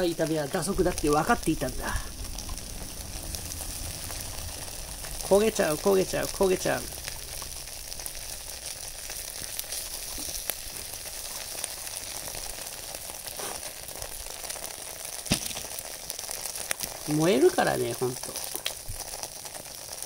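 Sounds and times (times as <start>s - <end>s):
vegetables sizzling in a tray: 0.0s - 20.0s.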